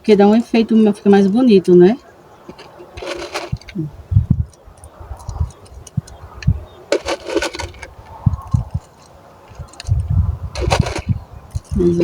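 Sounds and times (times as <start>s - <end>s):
gravel stones clicking and rattling: 0.0s - 12.0s.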